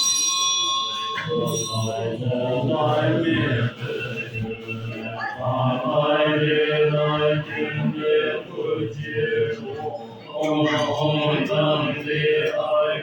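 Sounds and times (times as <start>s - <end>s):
men chanting in low voices: 1.2s - 13.0s.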